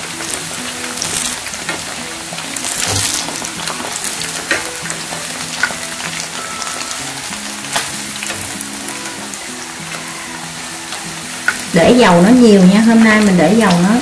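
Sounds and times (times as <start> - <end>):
oil sizzling and crackling: 0.0 - 14.0
soft background music: 0.0 - 14.0.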